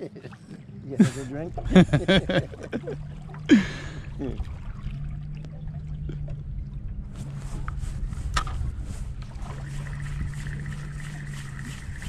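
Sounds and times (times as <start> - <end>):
steady low hum: 0.4 - 12.0.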